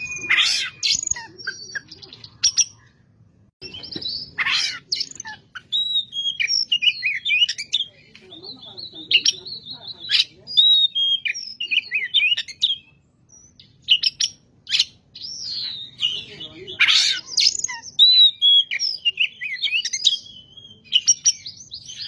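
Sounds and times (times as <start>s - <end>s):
bird singing whistles and chatters: 0.0s - 3.0s, 3.6s - 22.0s.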